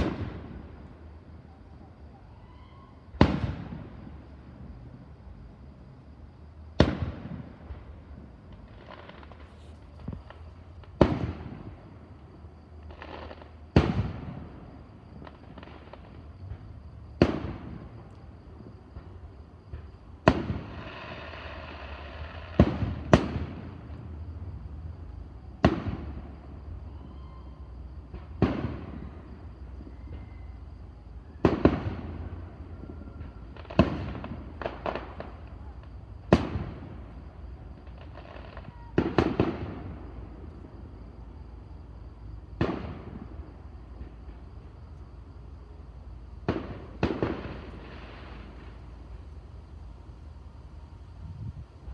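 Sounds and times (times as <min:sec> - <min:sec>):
fireworks bursting with echoing booms: 0:00.0 - 0:24.8, 0:25.5 - 0:50.4.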